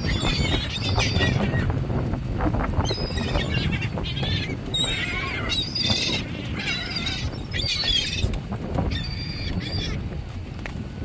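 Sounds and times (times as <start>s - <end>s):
gulls calling: 0.0s - 1.8s, 2.8s - 10.2s.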